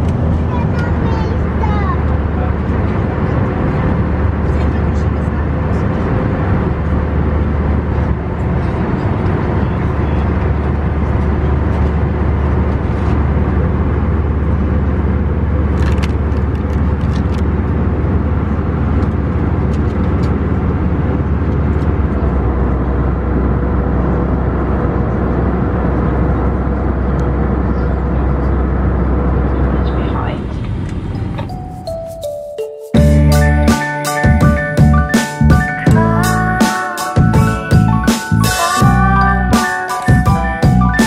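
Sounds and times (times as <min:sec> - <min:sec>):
airliner cabin drone: 0:00.0 - 0:41.0.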